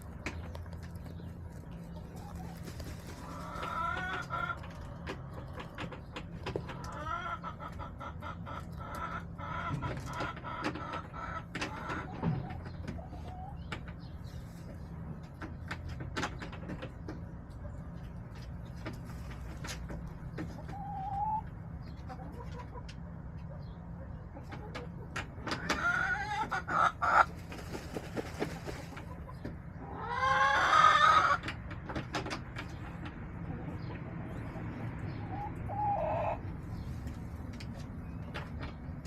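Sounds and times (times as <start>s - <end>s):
hens clucking and calling: 0.0s - 39.0s
low background hum: 0.0s - 39.0s.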